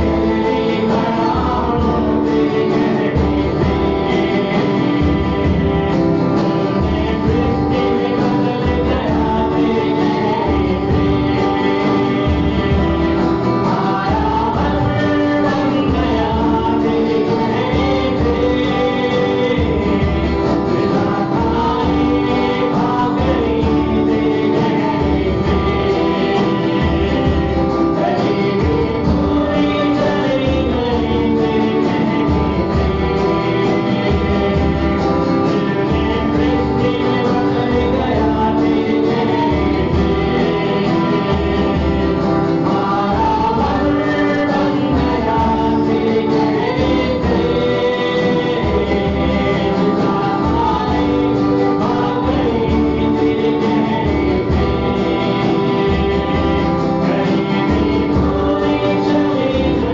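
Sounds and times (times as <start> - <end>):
acoustic and electric guitars: 0.0 - 59.9
drum kit beat: 0.0 - 59.9
voices singing: 0.0 - 59.9.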